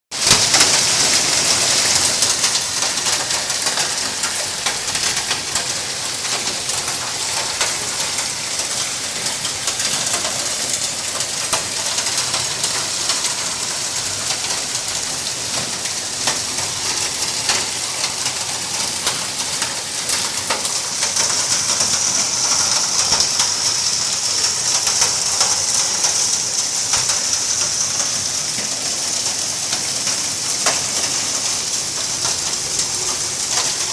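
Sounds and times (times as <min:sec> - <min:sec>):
hail and rain pelting down: 0:00.1 - 0:33.9.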